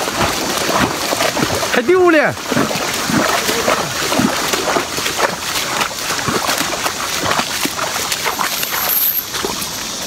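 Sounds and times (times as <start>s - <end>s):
splashing steps in shallow water: 0.0s - 10.0s.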